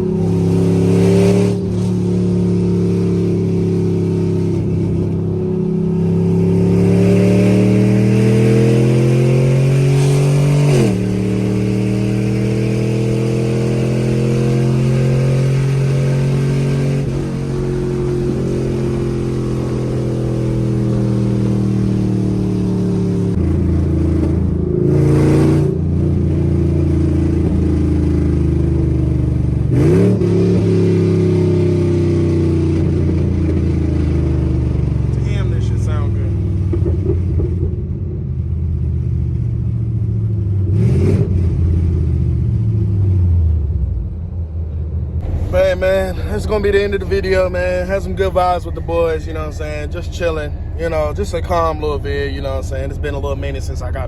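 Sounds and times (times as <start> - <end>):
loud car engine revving: 0.0 - 44.4, 45.2 - 54.0.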